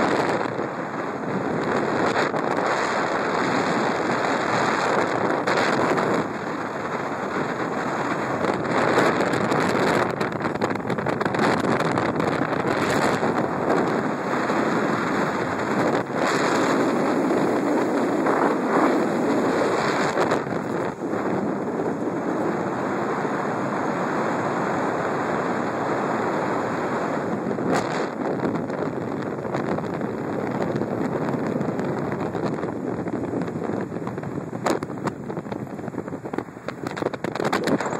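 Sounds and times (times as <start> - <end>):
road noise: 0.0 - 37.9
wind rushing over microphone: 0.0 - 37.9.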